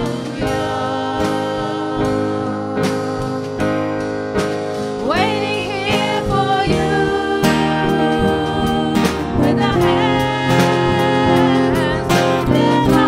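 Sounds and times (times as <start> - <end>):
person singing: 0.0 - 4.1, 5.0 - 13.0
instrumental accompaniment: 0.0 - 13.0.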